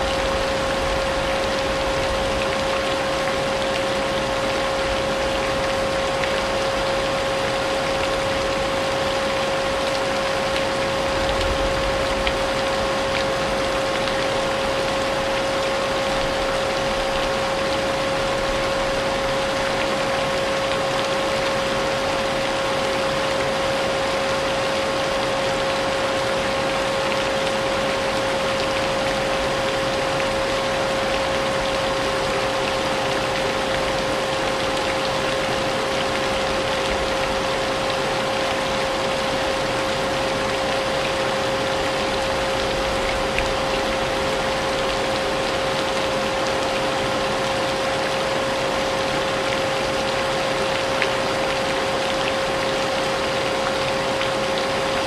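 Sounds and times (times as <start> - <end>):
rain hissing: 0.0 - 55.0.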